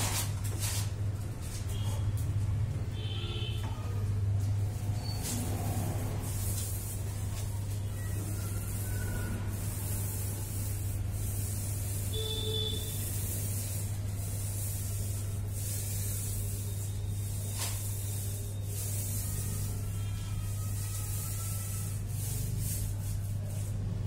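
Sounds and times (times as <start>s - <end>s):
paint roller rubbing: 0.0s - 2.0s, 4.6s - 24.0s.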